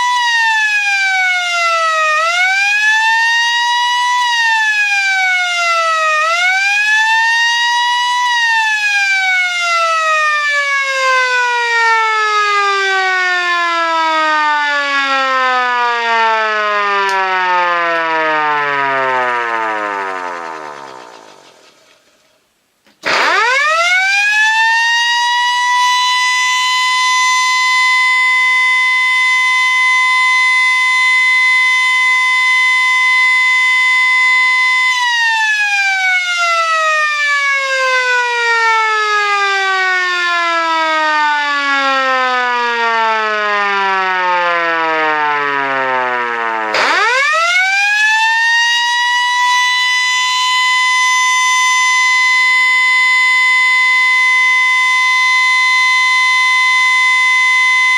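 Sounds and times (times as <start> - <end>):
electromechanical siren: 0.0 - 22.3, 23.0 - 57.9.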